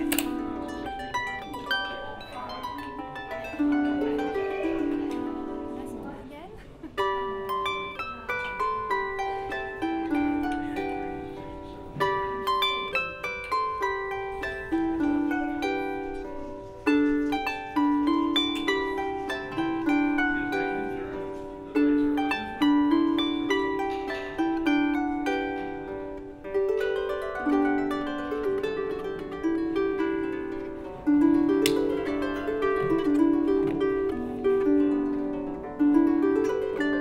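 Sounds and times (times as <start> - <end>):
harp music: 0.0 - 37.0.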